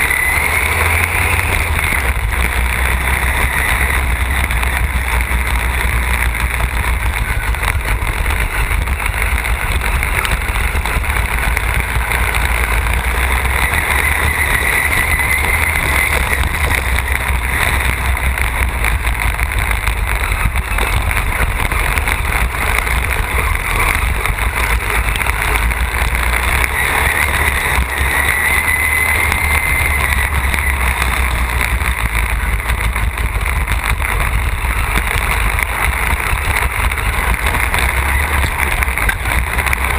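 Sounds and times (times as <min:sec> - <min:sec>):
lawn tractor engine running hard: 0:00.0 - 0:39.9.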